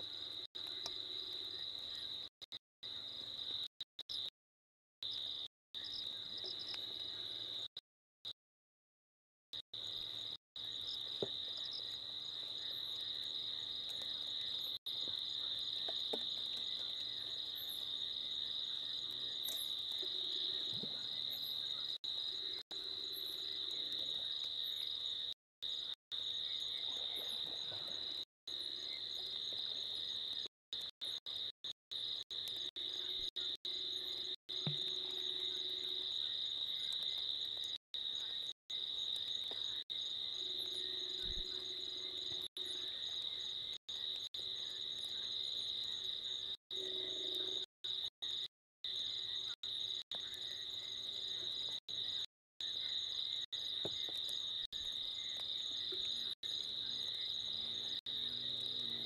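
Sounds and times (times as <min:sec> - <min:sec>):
crickets trilling: 0:09.6 - 0:59.0.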